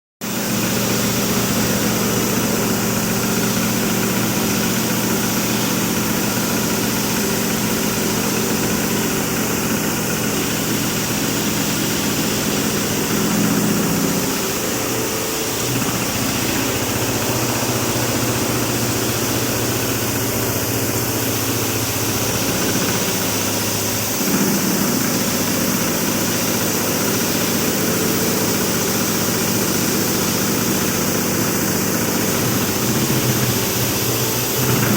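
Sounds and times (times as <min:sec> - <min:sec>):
machine running with mechanical hum: 0:00.3 - 0:34.9.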